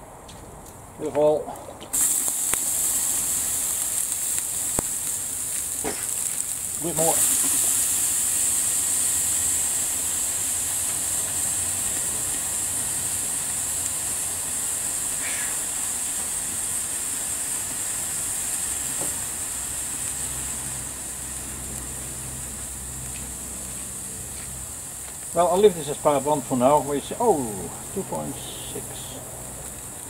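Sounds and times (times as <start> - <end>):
air fryer hissing: 1.9 - 30.0.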